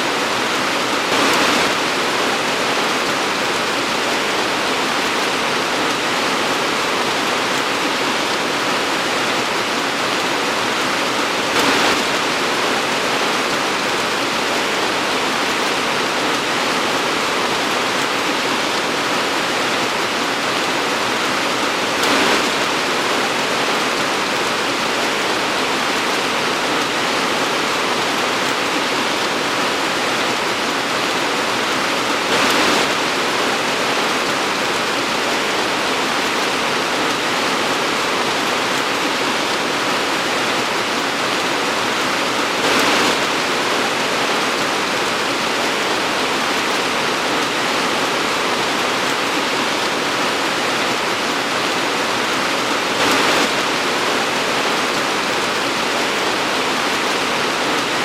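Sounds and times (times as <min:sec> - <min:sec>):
torrential rain pouring: 0:00.0 - 0:58.0.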